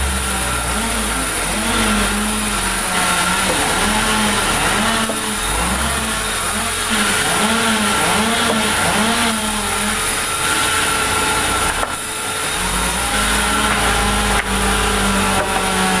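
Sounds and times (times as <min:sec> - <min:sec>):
band saw cutting log: 0:00.0 - 0:16.0.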